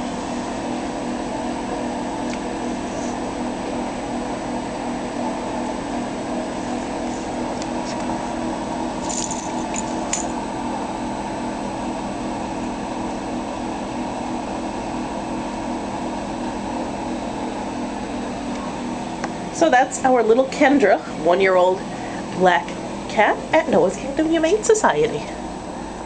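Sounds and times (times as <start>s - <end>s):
ventilation hum: 0.0s - 26.0s.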